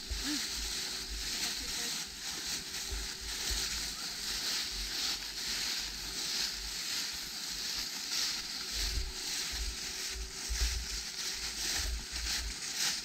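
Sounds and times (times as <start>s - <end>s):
footsteps in dry leaves: 0.0s - 13.0s.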